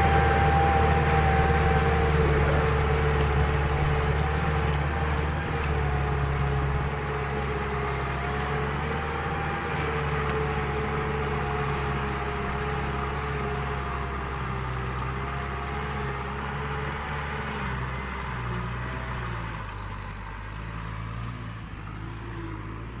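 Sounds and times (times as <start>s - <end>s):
steady whine: 0.0s - 22.8s
tractor diesel engine: 0.0s - 23.0s.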